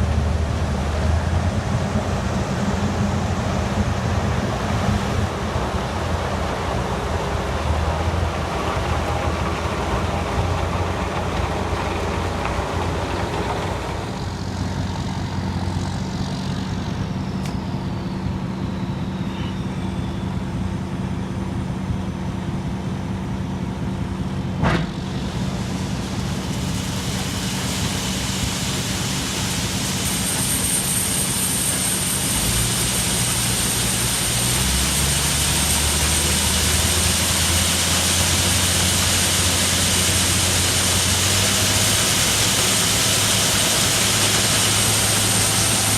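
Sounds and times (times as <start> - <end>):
diesel truck engine droning: 0.0 - 45.9
road and wind hiss: 0.0 - 45.9.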